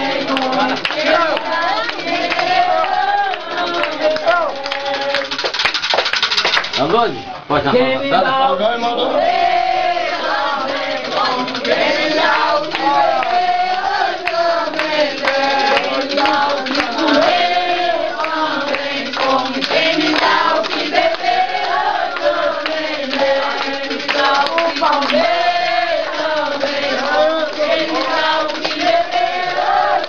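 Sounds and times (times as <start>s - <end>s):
hand clapping: 0.0s - 7.1s, 10.1s - 30.0s.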